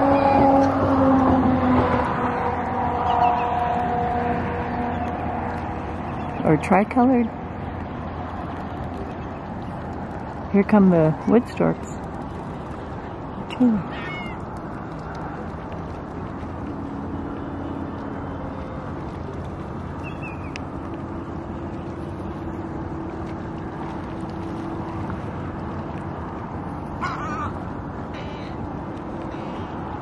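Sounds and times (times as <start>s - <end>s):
water: 0.0s - 30.0s
wind: 0.0s - 30.0s.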